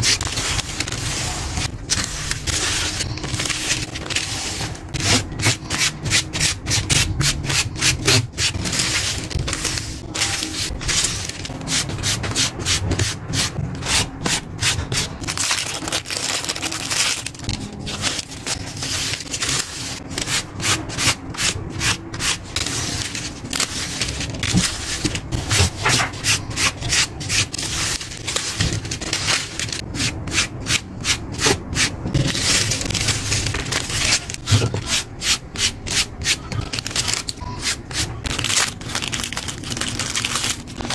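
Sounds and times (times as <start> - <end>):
paper rubbing and sliding: 0.0 - 40.9.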